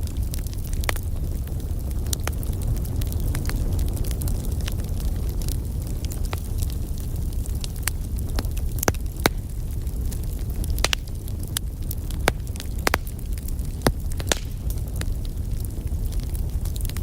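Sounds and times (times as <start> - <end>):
fire crackling: 0.0 - 17.0
sharp popping of fire: 0.0 - 17.0.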